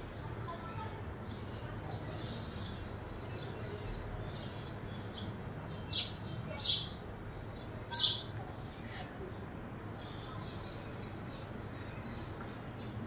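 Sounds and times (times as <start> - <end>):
birds chirping: 0.0 - 13.0
steady low background noise: 0.0 - 13.0.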